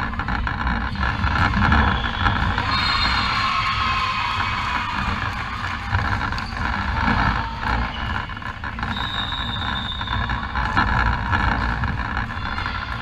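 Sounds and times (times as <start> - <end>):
sports hall noisy wash: 0.0 - 13.0.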